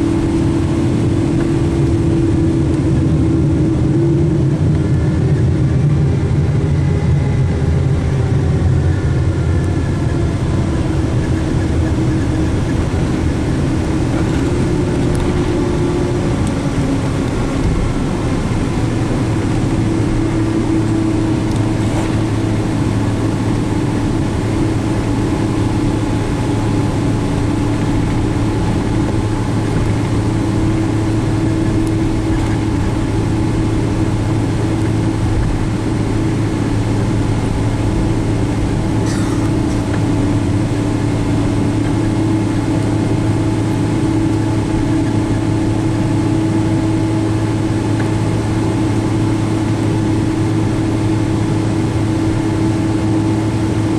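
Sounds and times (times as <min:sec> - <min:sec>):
jet engine drone in cabin: 0:00.0 - 0:53.9.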